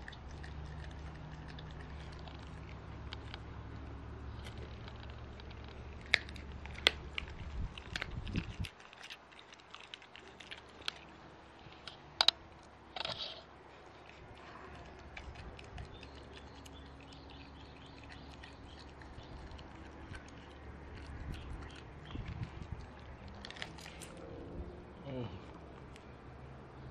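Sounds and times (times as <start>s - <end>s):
dog chewing bone: 0.0s - 12.4s, 13.7s - 24.4s.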